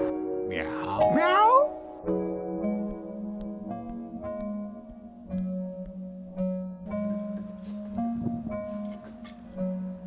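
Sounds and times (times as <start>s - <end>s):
instrumental music with sustained notes: 0.0s - 10.0s.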